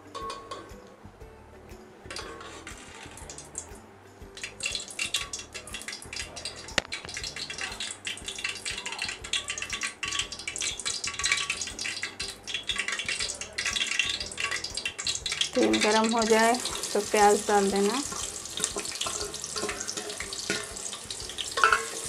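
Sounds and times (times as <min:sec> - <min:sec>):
oil sizzling in a pot: 0:02.1 - 0:22.0.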